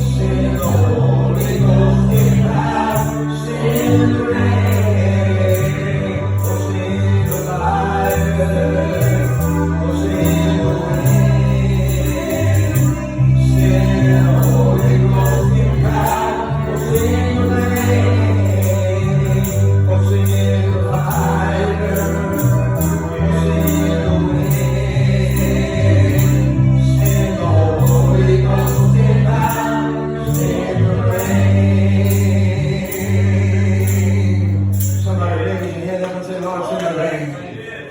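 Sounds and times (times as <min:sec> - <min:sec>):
band playing: 0:00.0 - 0:35.4
gospel group singing: 0:00.0 - 0:37.9.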